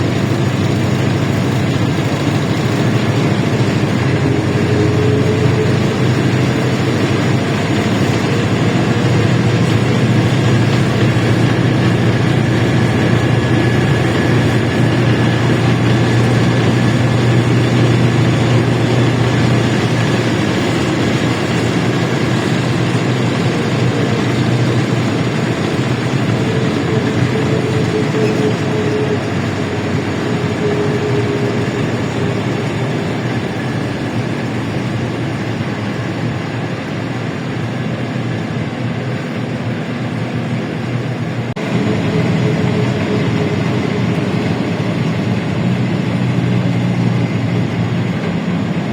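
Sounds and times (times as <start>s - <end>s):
bus engine drone: 0.0s - 48.9s
road and body noise: 0.0s - 48.9s.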